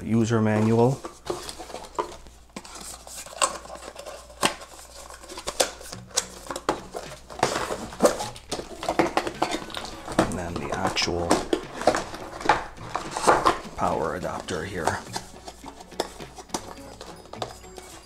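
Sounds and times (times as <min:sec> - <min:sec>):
card rustling: 0:00.0 - 0:18.0
cardboard tapping and scraping: 0:00.5 - 0:18.0.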